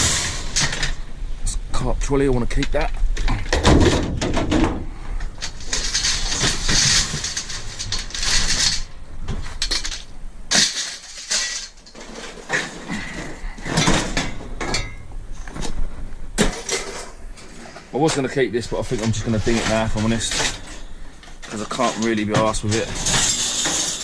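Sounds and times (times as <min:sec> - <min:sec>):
scrap metal clanking and rattling: 0:00.0 - 0:01.1, 0:02.6 - 0:24.0
rustling: 0:04.8 - 0:24.0.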